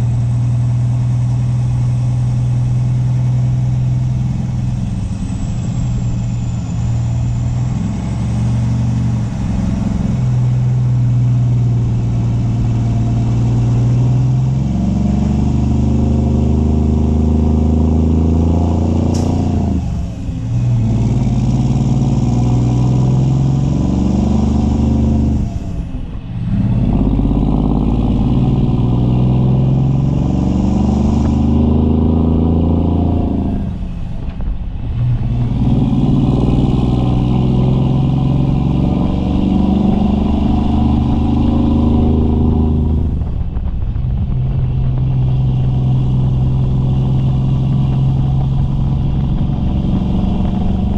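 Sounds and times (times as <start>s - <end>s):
diesel truck engine under load: 0.0s - 50.9s.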